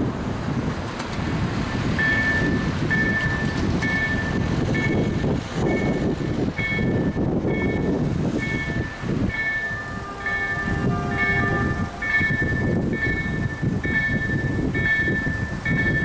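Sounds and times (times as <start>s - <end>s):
cars driving over crossing: 0.0s - 16.0s
level crossing warning bells: 1.8s - 16.0s.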